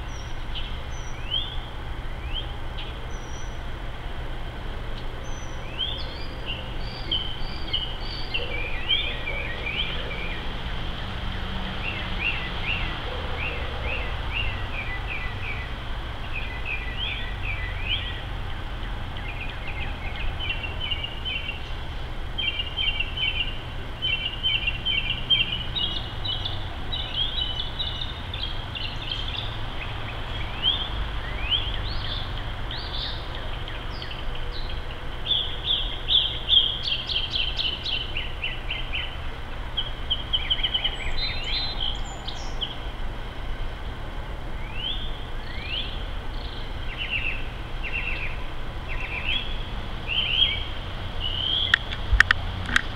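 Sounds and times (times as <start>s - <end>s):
small songbirds chirping: 0.0s - 3.8s, 4.9s - 52.4s.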